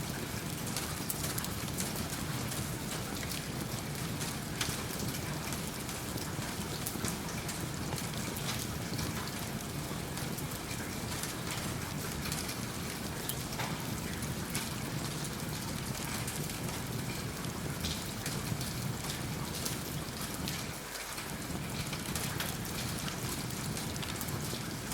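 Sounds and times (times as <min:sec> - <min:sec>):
steady rain falling: 0:00.0 - 0:24.9
wood fire crackling: 0:00.1 - 0:09.6, 0:10.2 - 0:24.9.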